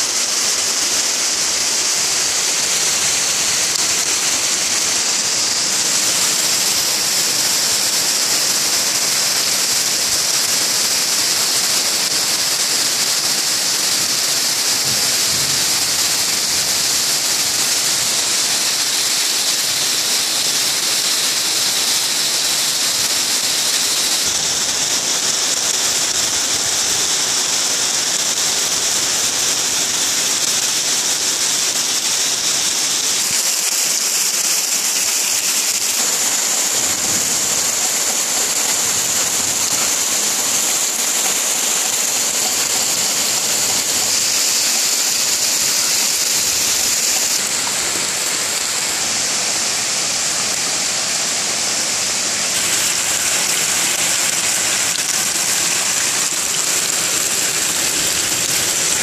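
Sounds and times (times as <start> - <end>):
heavy rain on leaves: 0.0 - 59.0
rain splashing on wet ground: 0.0 - 59.0.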